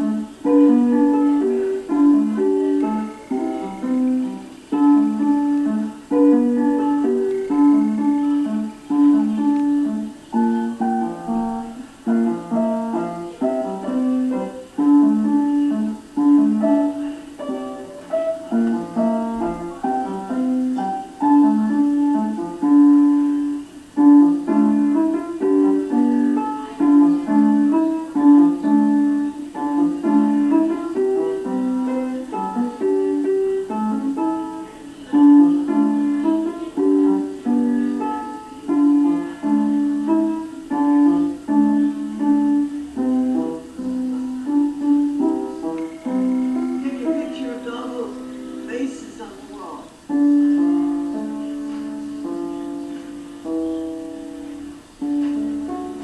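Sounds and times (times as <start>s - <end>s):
solo piano: 0.0s - 56.0s.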